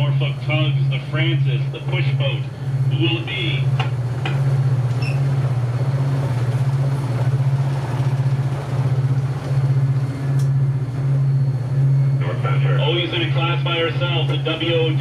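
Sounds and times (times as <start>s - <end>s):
diesel engine throbbing: 0.0s - 15.0s.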